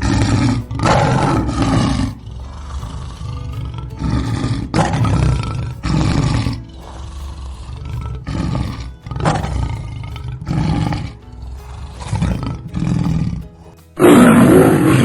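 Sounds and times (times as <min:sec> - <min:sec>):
lion roaring: 0:00.0 - 0:13.4, 0:14.0 - 0:15.0.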